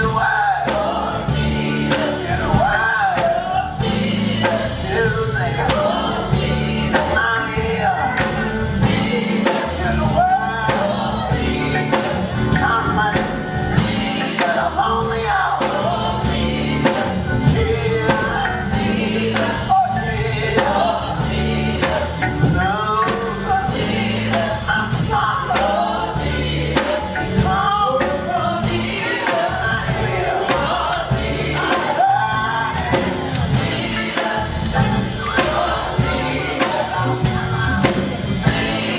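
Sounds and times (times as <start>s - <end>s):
gospel quartet singing with band: 0.0s - 38.9s.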